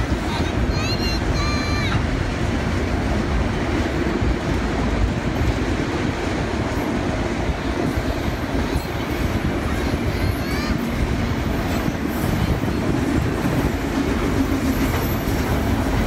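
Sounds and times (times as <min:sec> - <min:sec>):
freight cars rumbling and rattling: 0:00.0 - 0:16.0.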